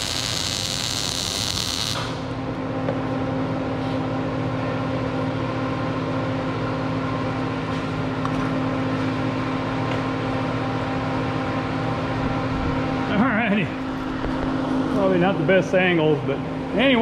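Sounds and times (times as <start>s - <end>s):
machine hum with fan whirring: 0.0s - 17.0s.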